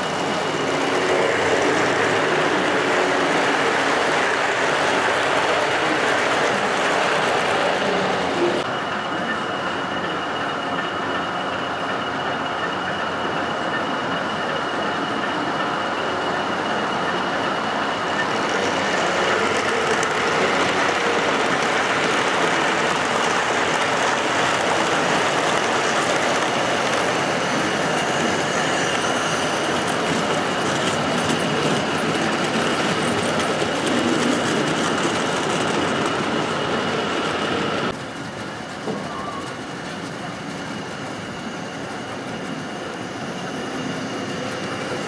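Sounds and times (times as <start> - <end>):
steady high whine: 0.0 - 38.8
model train wheels rolling on rail: 0.0 - 45.0.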